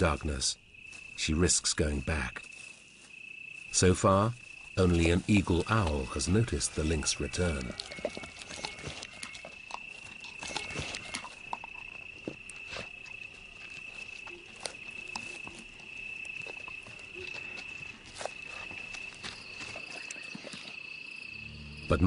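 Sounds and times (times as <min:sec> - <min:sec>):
cricket chirring: 0:00.0 - 0:22.0.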